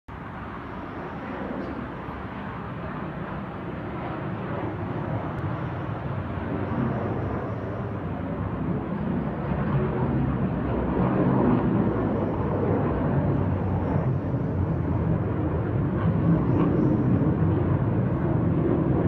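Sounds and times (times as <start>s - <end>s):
jet engines roaring: 0.1s - 19.0s.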